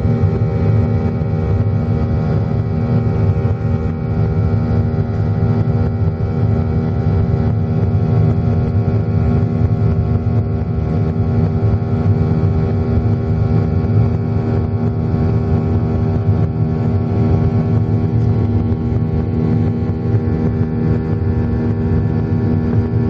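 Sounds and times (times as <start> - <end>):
jet engine cabin rumble: 0.0 - 23.0
steady engine tones: 0.0 - 23.0.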